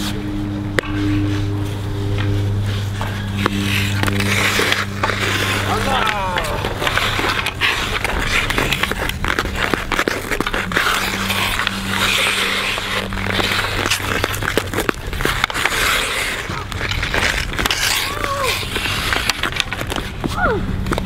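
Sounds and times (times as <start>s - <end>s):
ice skate blades scraping ice: 0.0s - 21.0s
hockey sticks and puck clicking: 0.7s - 1.3s, 3.0s - 21.0s.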